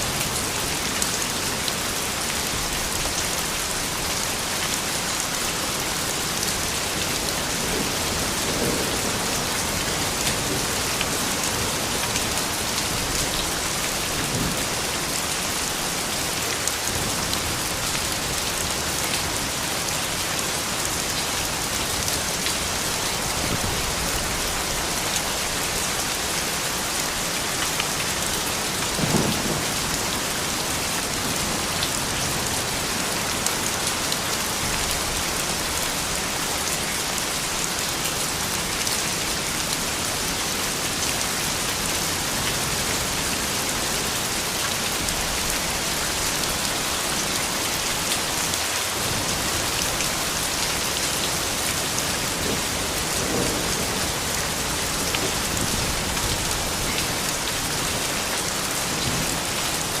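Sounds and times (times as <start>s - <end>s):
soft rain falling: 0.0s - 60.0s.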